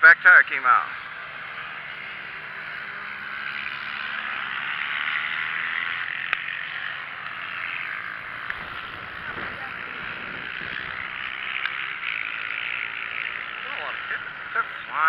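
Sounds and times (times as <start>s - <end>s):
motorcycles racing past: 0.0s - 15.0s.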